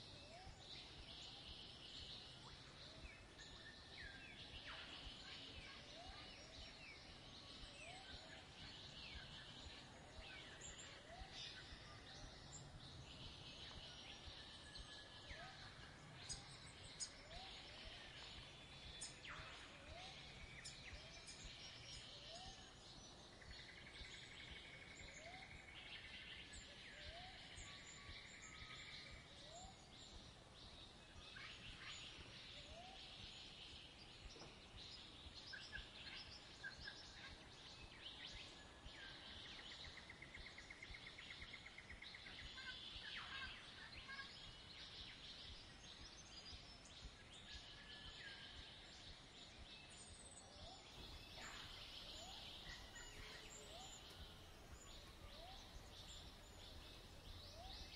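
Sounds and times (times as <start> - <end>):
faint birdsong chirps and trills: 0.0 - 57.9.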